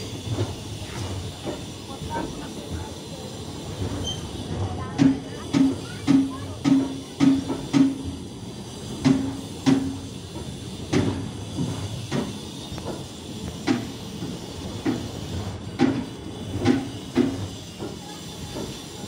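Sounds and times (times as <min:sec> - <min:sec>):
train rolling rumble: 0:00.0 - 0:19.0
train wheels clacking over rail joints: 0:00.0 - 0:19.0.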